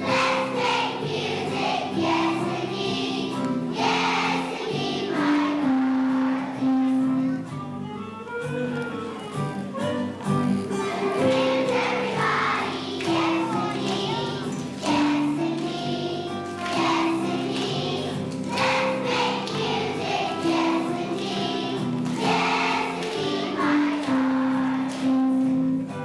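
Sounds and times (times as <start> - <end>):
children's choir singing: 0.0 - 7.5, 10.0 - 26.0
instrumental accompaniment: 0.0 - 26.0.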